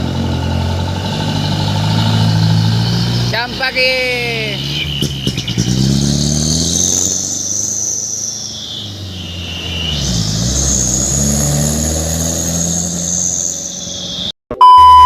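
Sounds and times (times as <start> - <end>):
diesel truck engine revving: 0.0 - 14.8.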